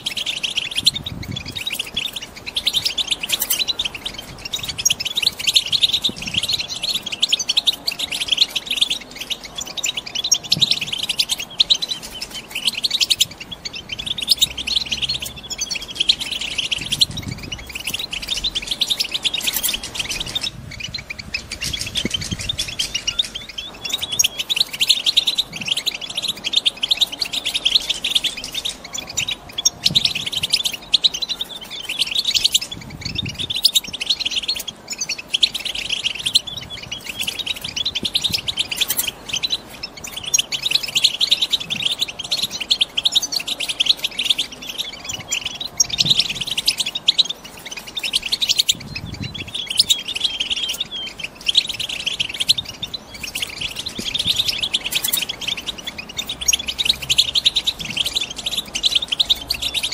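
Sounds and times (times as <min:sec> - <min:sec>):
finches twittering: 0:00.0 - 0:59.9.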